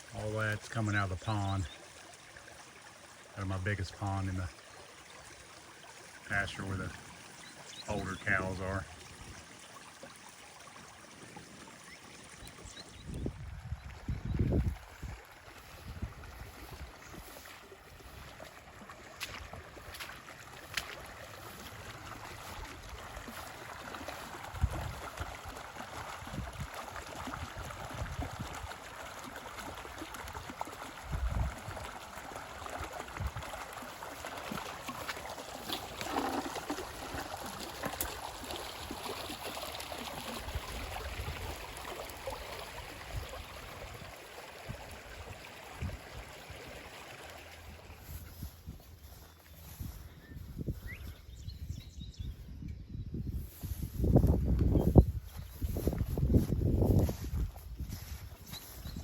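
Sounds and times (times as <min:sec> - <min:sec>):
water running down a ditch: 0:00.0 - 0:50.7, 0:53.4 - 0:59.0.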